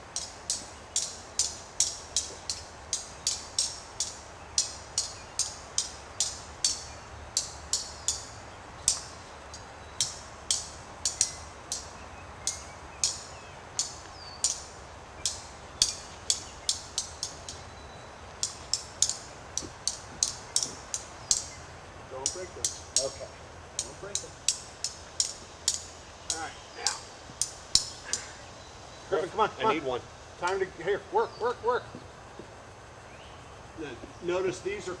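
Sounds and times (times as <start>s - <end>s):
sharp high-pitched ticks: 0.0s - 28.6s
faint steady hum: 0.0s - 35.0s.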